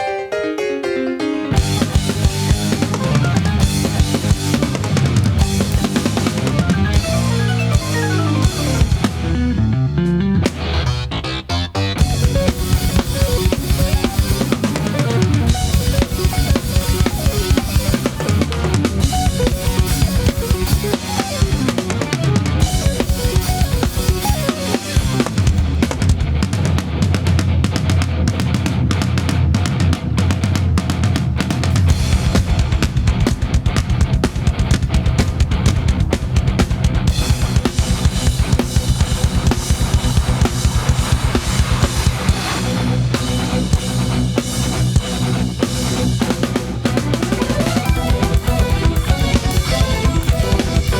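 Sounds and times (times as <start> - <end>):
loud backing music: 1.2 - 50.9
drum kit playing fast: 1.6 - 11.1, 12.0 - 50.9.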